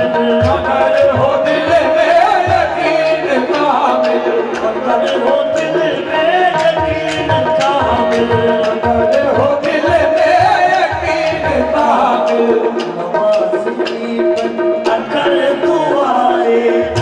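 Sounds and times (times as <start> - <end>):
harmonium melody: 0.0 - 17.0
tabla and hand drums: 0.0 - 17.0.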